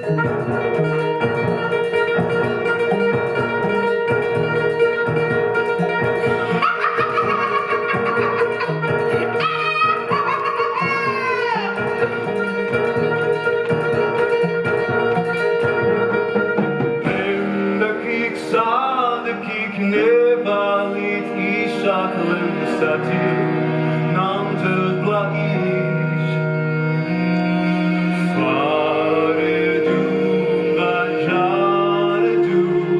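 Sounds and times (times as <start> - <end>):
plucked guitar: 0.0 - 32.9
sliding melodic lines: 0.0 - 32.9
sustained string tones: 0.0 - 32.9.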